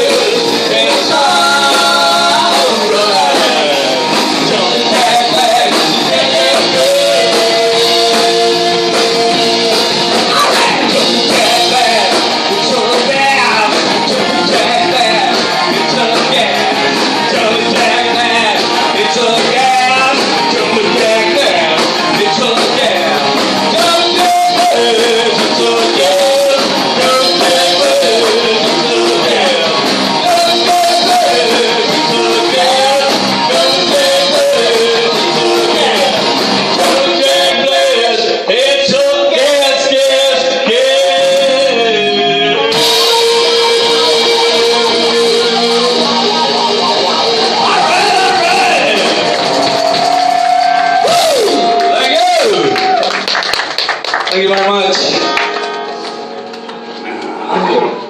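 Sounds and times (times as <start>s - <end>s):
person singing: 0.0s - 53.1s
electric guitar: 0.0s - 58.0s
live rock band playing: 0.0s - 58.0s.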